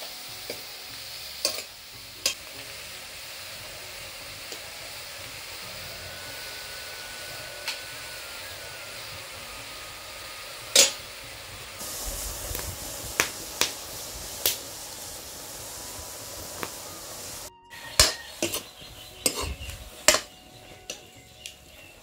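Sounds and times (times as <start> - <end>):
oil sizzling: 0.0 - 22.0
metal ladle scraping wok: 0.4 - 11.8, 13.1 - 21.7.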